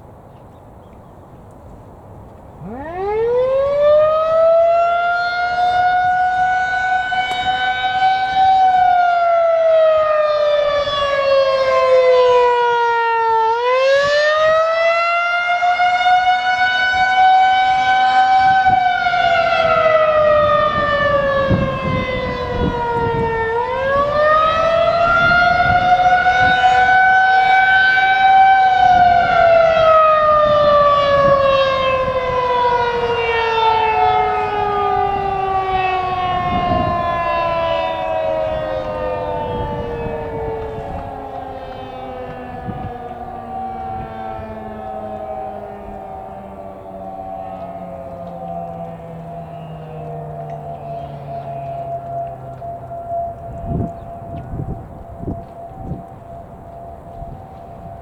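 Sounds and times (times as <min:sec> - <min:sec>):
warning siren wailing: 0:01.9 - 0:58.0.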